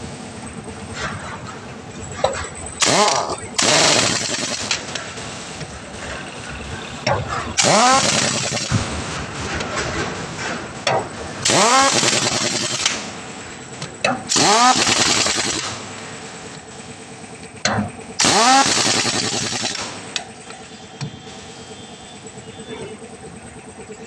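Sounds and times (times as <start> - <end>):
pneumatic impact wrench: 0.0 - 23.0.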